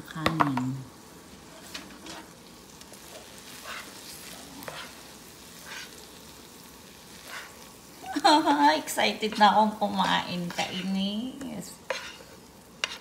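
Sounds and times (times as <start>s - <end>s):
spatula scraping frying pan: 1.3s - 7.9s, 8.8s - 13.0s.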